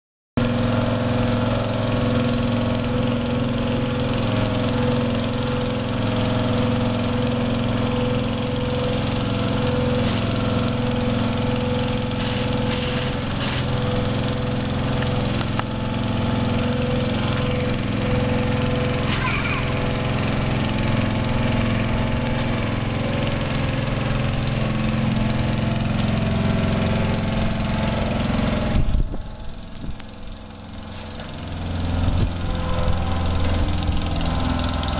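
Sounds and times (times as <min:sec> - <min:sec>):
small engine running steadily: 0:00.4 - 0:34.9.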